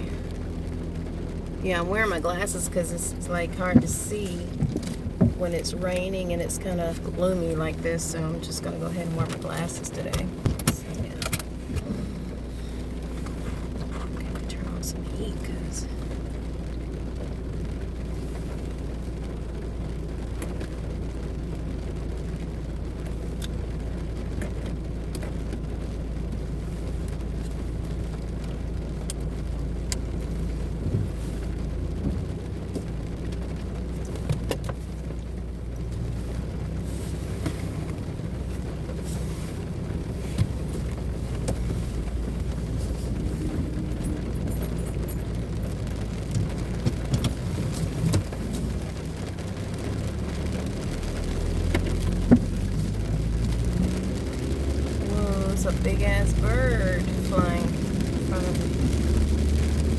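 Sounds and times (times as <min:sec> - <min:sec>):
car engine and road hum: 0:00.0 - 0:59.9
rain tapping on car: 0:00.0 - 0:59.9.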